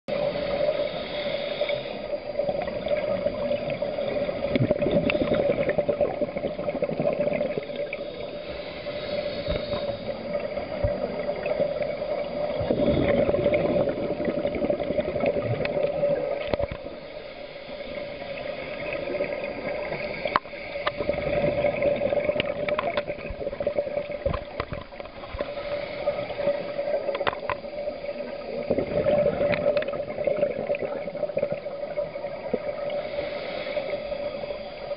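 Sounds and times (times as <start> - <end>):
regulator breathing underwater: 0.1 - 31.3, 32.3 - 34.9
steady hum: 0.1 - 34.9
bubbles gurgling: 2.3 - 8.2, 9.0 - 17.1, 18.0 - 33.0.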